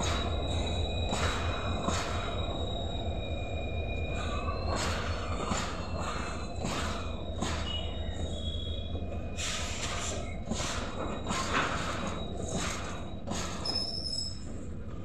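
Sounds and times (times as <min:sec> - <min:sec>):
freight train low rumble: 0:00.0 - 0:15.0
train wheels clattering: 0:00.0 - 0:15.0.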